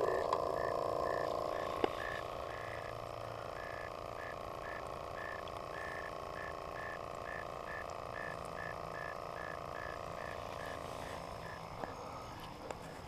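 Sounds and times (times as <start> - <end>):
frog short calls: 0.0 - 12.1
droning frog chorus: 0.0 - 13.0.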